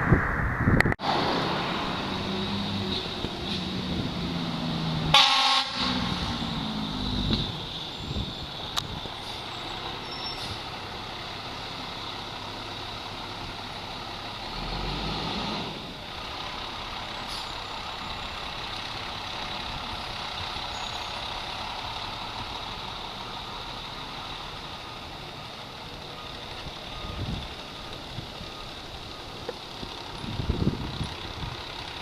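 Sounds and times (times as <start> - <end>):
fire truck engine running: 1.2 - 14.6, 15.7 - 32.0.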